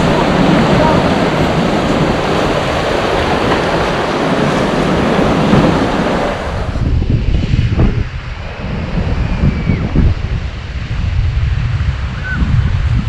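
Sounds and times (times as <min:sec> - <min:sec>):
ocean surf washing on shore: 0:00.0 - 0:13.0
wind buffeting microphone: 0:00.0 - 0:13.0.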